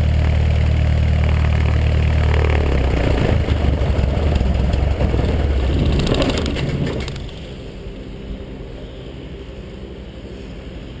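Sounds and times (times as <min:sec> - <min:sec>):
engine clattering to a stop: 0:00.0 - 0:09.6
airplane engine idling: 0:00.0 - 0:11.0
low steady hum: 0:00.0 - 0:11.0.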